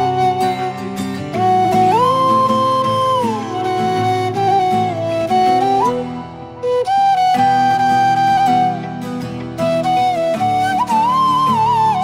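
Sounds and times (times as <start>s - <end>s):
plucked-string accompaniment: 0.0s - 12.0s.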